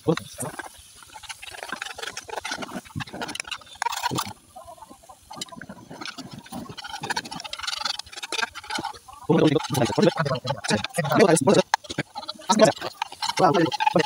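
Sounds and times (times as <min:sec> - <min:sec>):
knife scraping a frying pan: 0:00.4 - 0:04.4, 0:05.3 - 0:14.0.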